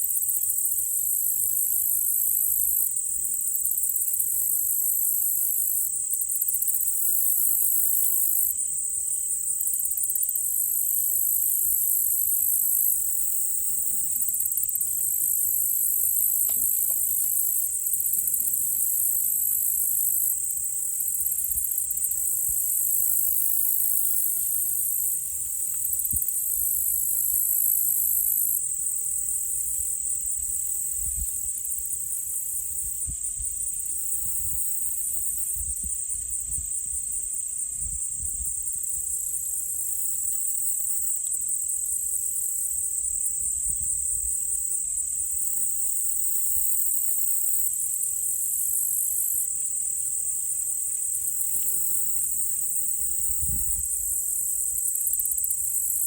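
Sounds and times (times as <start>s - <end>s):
insects chorus pulsing: 0.0s - 56.0s.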